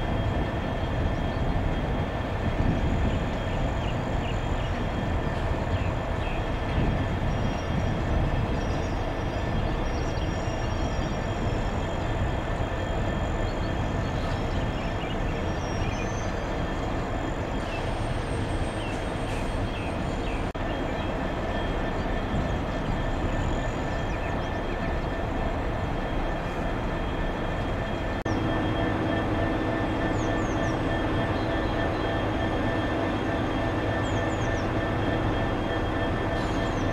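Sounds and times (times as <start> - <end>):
diesel locomotives idling: 0.0 - 36.9
thin steady whine: 0.0 - 36.9.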